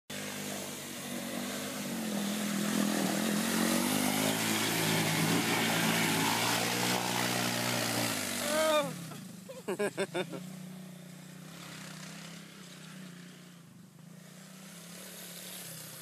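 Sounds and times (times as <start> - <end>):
engine revving hard: 0.1 - 10.7, 11.4 - 16.0.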